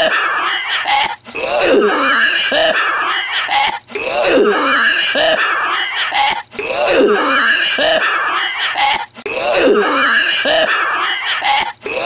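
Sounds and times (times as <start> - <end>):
man coughing and gagging: 0.0 - 12.0.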